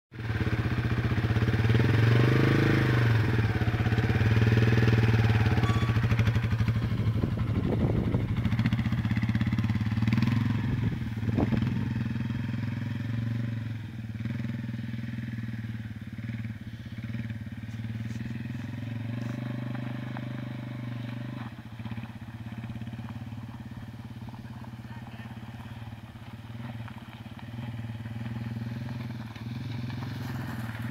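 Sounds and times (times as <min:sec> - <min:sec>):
motorcycle engine running: 0:00.2 - 0:30.9.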